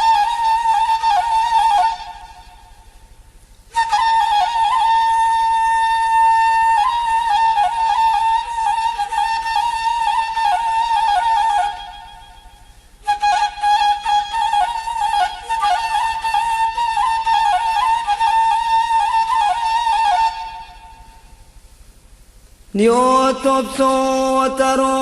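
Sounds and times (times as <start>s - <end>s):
solo flute melody: 0.0s - 3.0s, 3.7s - 21.4s.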